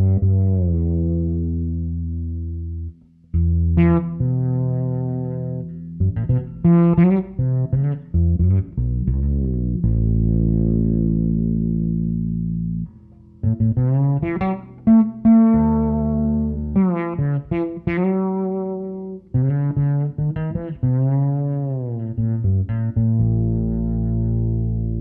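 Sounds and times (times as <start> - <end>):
fretless bass notes: 0.0 - 25.0.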